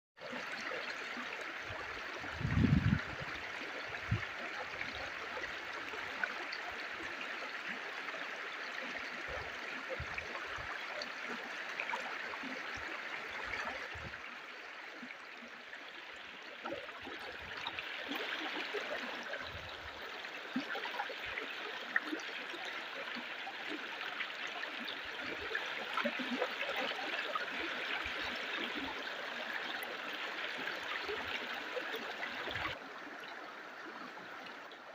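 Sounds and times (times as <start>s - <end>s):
stream water flowing over rocks: 0.2s - 34.9s.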